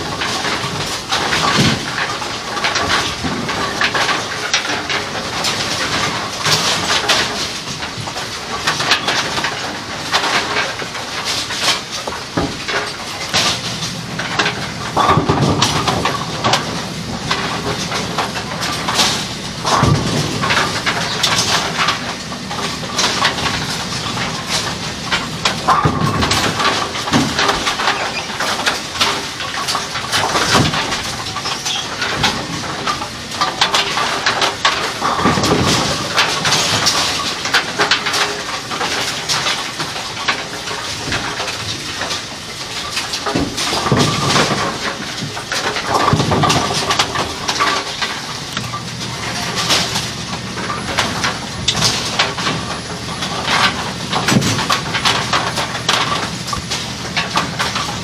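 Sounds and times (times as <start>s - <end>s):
bowling pins knocking and scrubbing: 0.0s - 58.0s.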